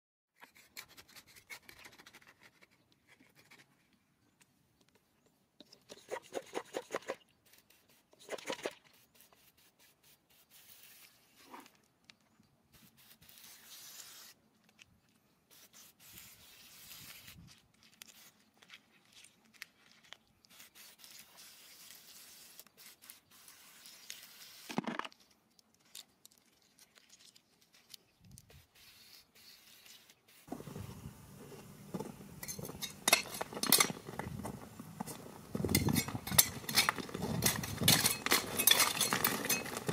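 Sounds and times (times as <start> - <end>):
rubbing and scraping handling sounds: 0.3 - 39.9.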